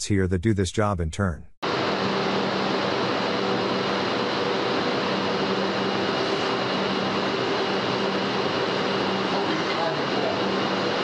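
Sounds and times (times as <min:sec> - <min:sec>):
low machinery hum: 0:01.7 - 0:11.0.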